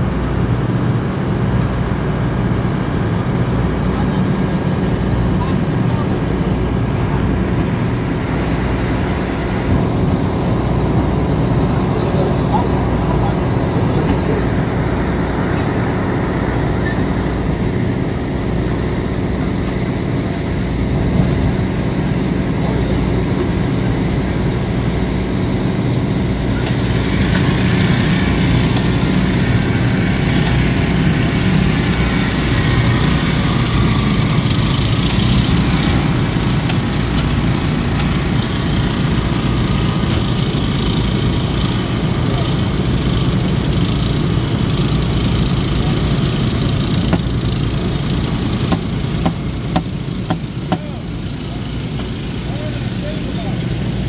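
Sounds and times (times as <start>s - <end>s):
small gasoline engine running: 3.0s - 54.0s.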